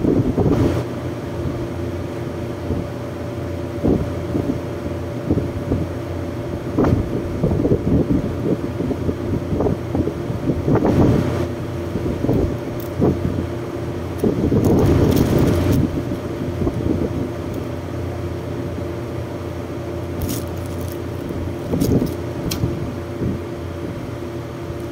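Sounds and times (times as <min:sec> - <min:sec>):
air conditioning units humming: 0:00.0 - 0:24.9.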